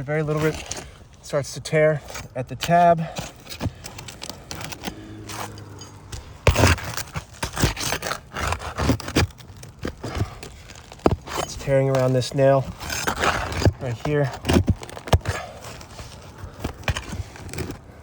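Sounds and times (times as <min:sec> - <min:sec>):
roof shingle scraping and crackling: 0:00.0 - 0:18.0.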